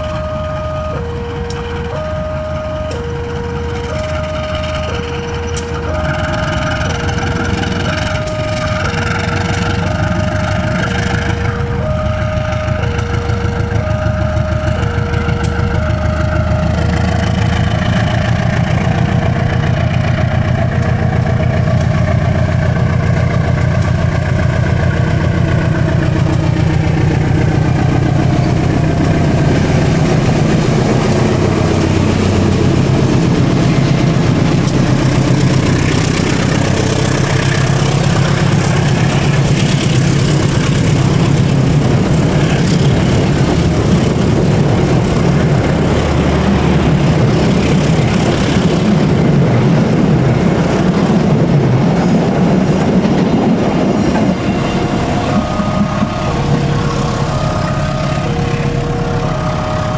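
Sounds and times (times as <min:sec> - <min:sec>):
train wheels clattering on rails: 0:00.0 - 0:57.3
diesel locomotive engine: 0:00.0 - 0:59.9.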